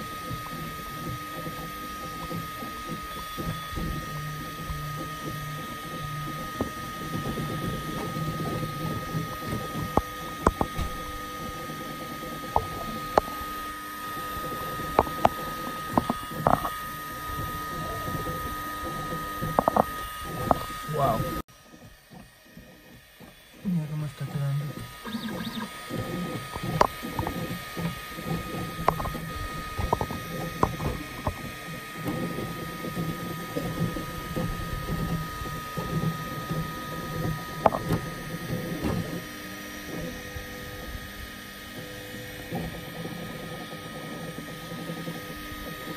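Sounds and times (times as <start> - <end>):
fan hum: 0.0 - 45.9
printer stepper motors whining: 0.0 - 45.9.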